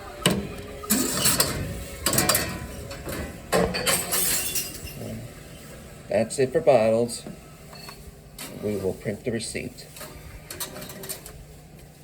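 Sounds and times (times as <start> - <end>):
vending machine mechanism noise: 0.0 - 12.0.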